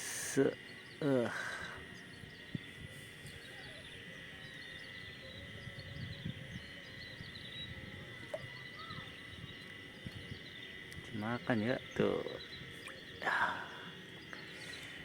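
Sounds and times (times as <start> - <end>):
high insect drone: 0.0 - 15.0
bird chirps: 1.9 - 15.0.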